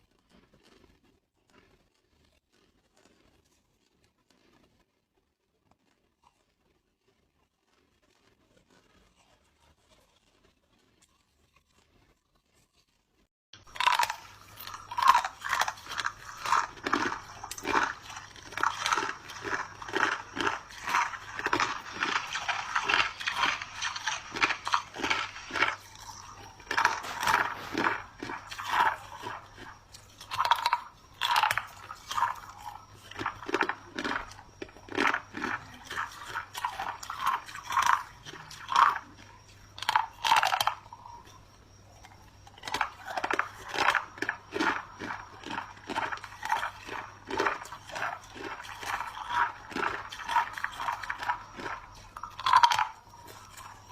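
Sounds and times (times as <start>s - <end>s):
ice being chewed with crunches: 0.0s - 53.9s.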